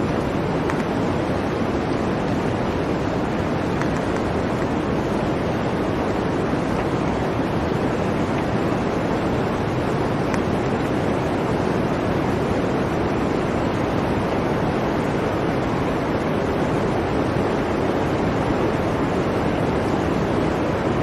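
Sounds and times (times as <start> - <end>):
blizzard wind blowing: 0.0 - 21.0.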